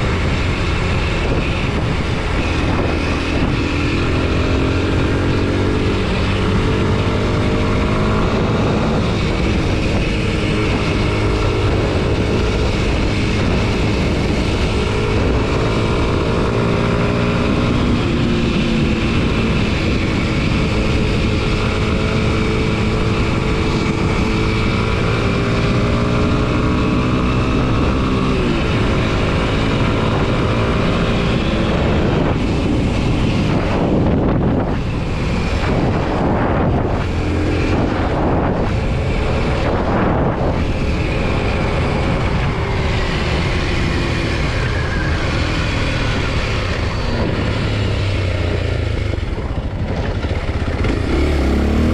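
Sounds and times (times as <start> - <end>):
motorcycle engine running: 0.0 - 51.9
wind on microphone: 0.0 - 51.9.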